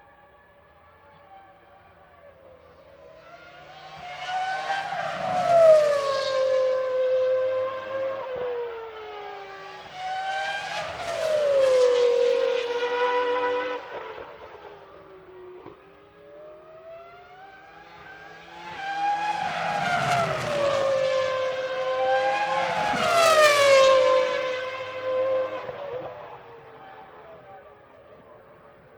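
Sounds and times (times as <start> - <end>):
race cars passing at high revs: 0.2 - 28.9.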